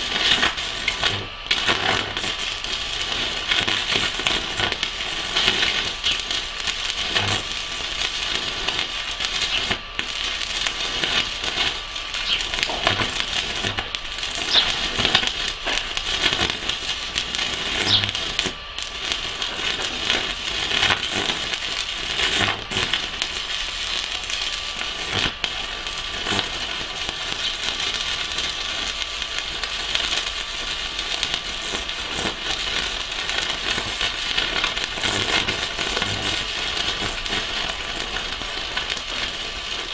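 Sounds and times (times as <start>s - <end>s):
arc welding crackle and sizzle: 0.0s - 39.9s.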